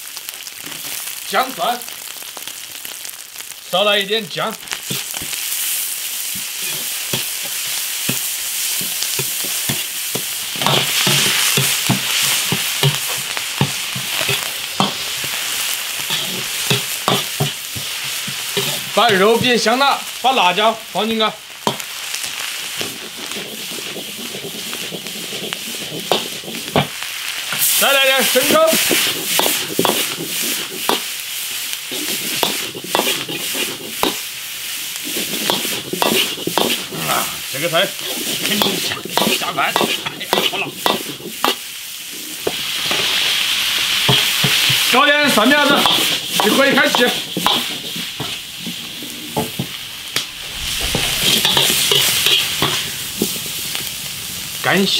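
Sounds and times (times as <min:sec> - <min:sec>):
meat sizzling in a wok: 0:00.0 - 0:54.9
spatula scraping a wok: 0:04.7 - 0:20.6, 0:21.6 - 0:54.5.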